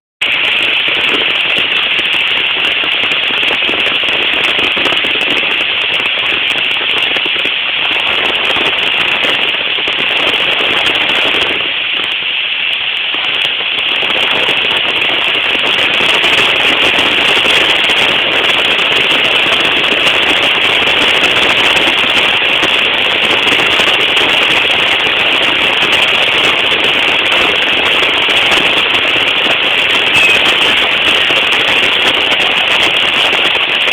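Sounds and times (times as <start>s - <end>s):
heavy rain: 0.2s - 33.9s.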